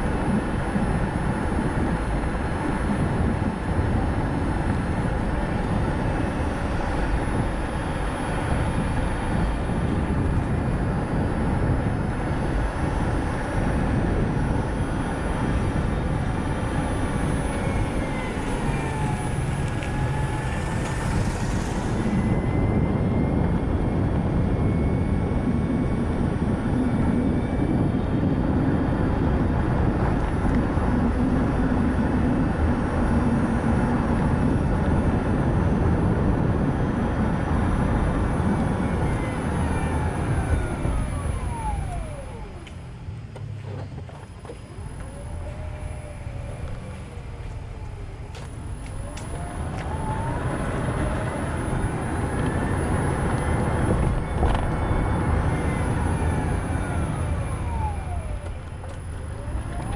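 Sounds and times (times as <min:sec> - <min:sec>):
faint thin whine: 0:00.0 - 0:59.9
road and tyre noise: 0:00.0 - 0:59.9.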